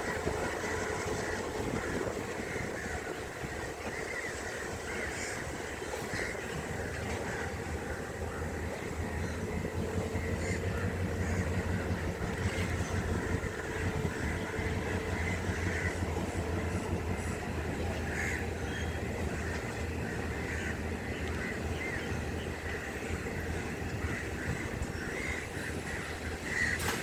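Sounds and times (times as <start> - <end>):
crows cawing: 0.0 - 27.0
locomotive engine rumbling: 0.0 - 27.0.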